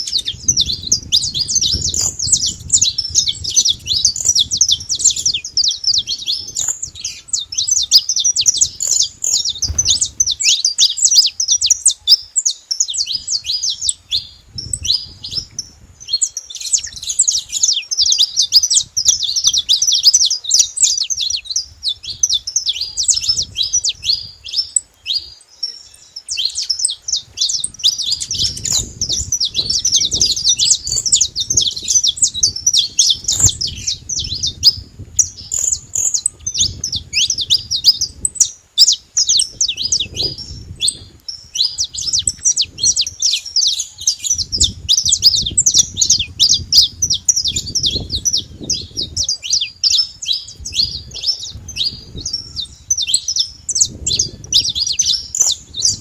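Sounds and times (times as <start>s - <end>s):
finches chirping: 0.0s - 56.0s.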